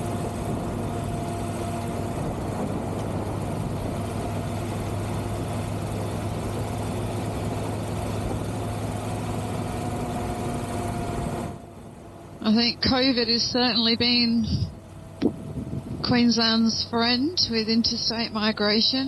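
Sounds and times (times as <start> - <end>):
motorcycle engine humming steadily: 0.0 - 19.0.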